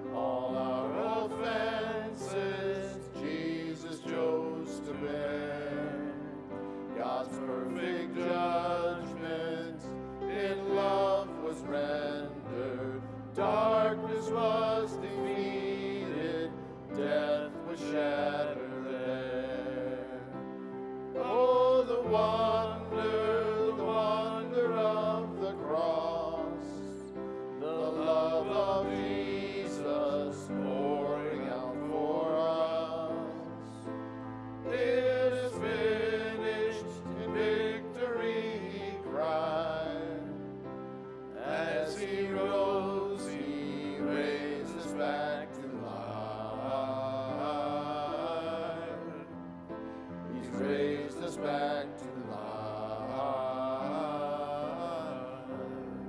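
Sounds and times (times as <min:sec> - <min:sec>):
worship song with accompaniment: 0:00.0 - 0:56.0.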